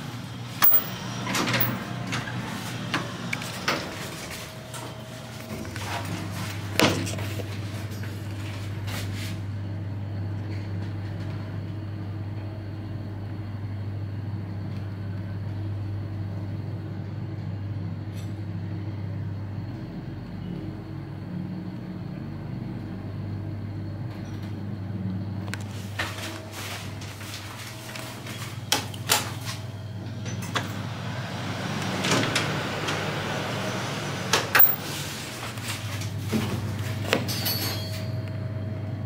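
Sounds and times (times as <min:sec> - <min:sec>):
elevator drive humming: 0:00.0 - 0:39.0.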